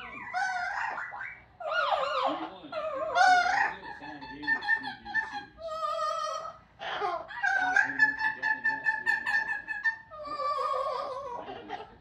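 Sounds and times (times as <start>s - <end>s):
parrot harsh squawk: 0.0s - 12.0s.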